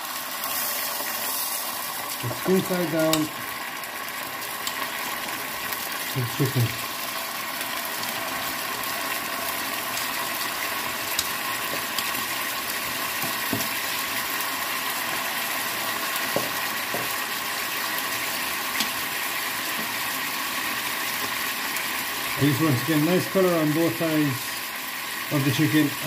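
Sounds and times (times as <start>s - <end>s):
chicken frying in oil: 0.0s - 26.0s.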